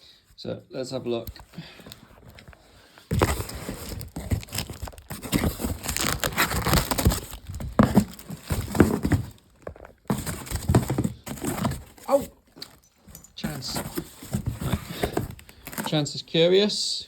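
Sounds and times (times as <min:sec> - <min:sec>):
packing material crinkling: 0:01.9 - 0:16.1.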